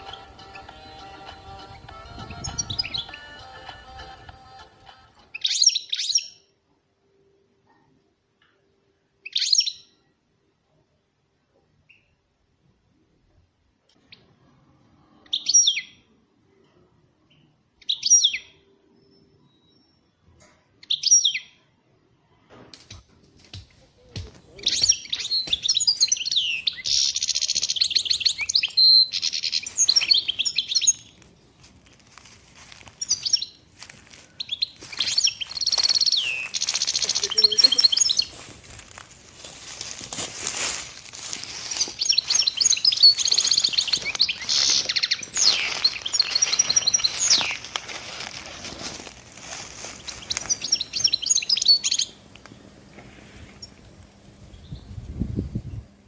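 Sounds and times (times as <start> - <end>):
songbird chirping and trilling: 0.0 - 6.6, 9.1 - 10.1, 15.1 - 16.2, 17.2 - 21.7, 24.0 - 56.0.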